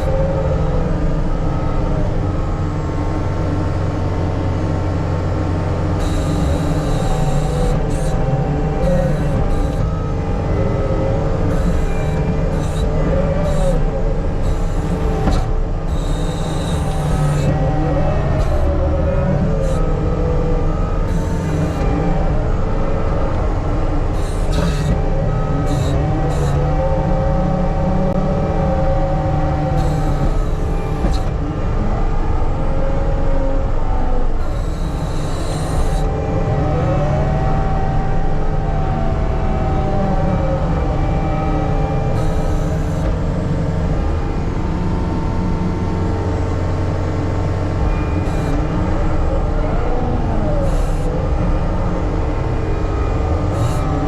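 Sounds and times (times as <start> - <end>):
heavy diesel engine under load: 0.0 - 54.0
hydraulic whine: 0.0 - 54.0.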